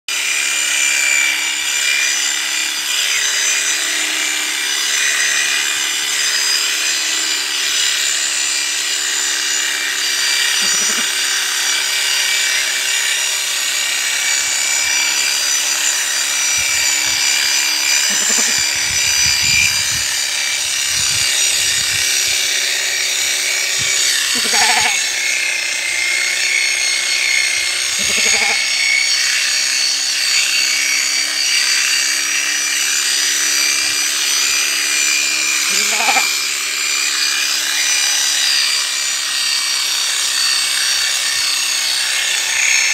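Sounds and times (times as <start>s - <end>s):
electric shearing clipper whine: 0.1s - 42.9s.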